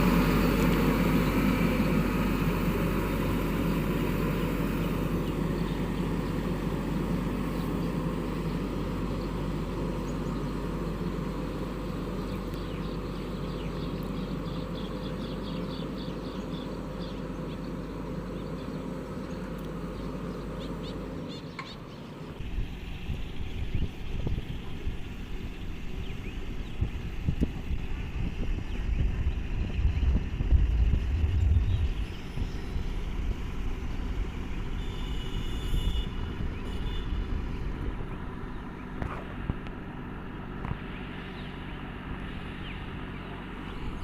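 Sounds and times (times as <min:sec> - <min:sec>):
diesel engine of heavy machine: 0:00.0 - 0:44.0.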